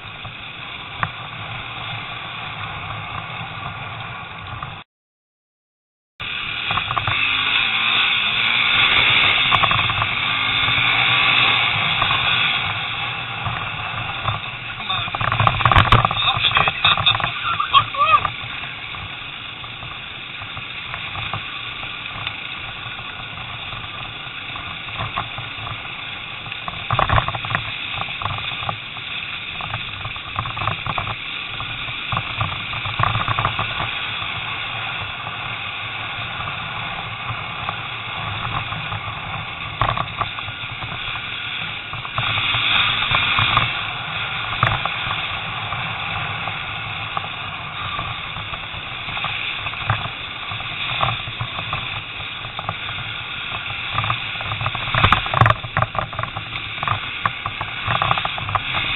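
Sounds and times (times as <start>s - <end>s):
motorcycle engine running: 0.0s - 4.8s, 6.2s - 58.9s.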